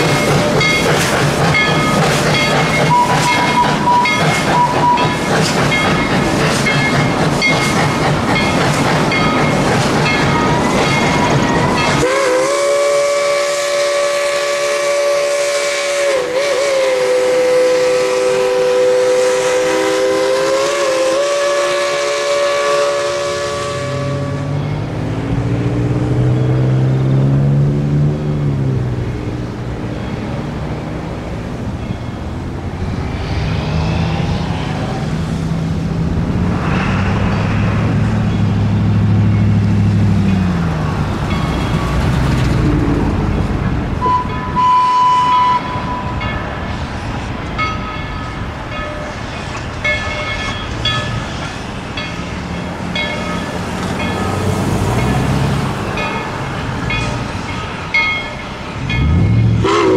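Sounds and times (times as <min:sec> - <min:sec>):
train drone: 0:00.0 - 0:59.9.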